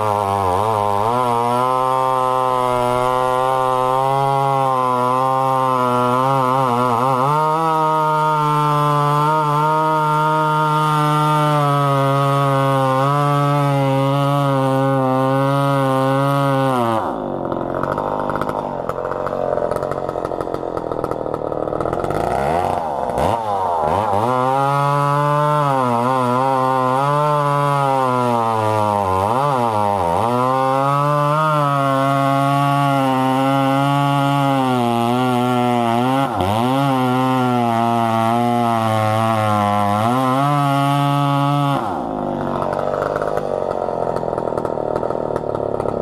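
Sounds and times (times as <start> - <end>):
chainsaw revving and cutting: 0.0 - 46.0.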